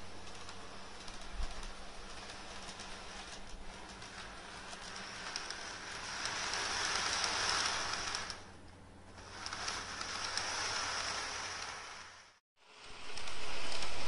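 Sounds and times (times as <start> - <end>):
model train rattling on rails: 0.0 - 14.0.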